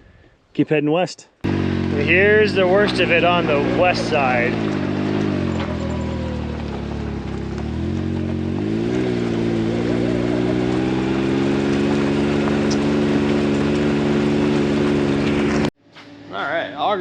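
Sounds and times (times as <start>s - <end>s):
vehicle engine running: 1.4s - 15.7s.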